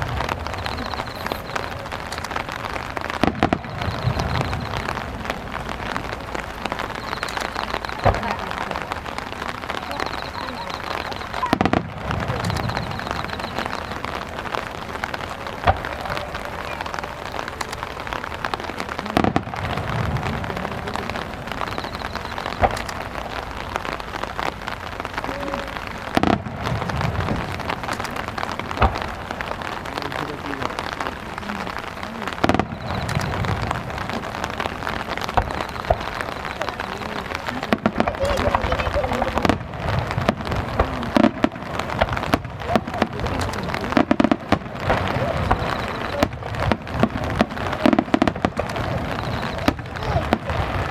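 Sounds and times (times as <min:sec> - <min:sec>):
rain falling on surfaces: 0:00.0 - 0:50.9.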